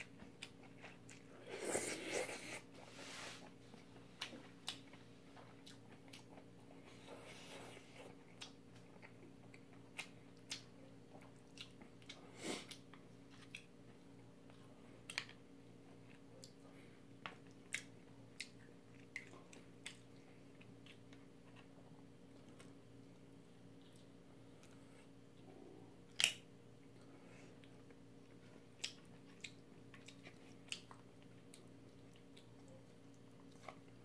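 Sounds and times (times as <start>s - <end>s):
faint steady hum: 0.0s - 34.0s
person chewing quietly: 0.0s - 34.0s.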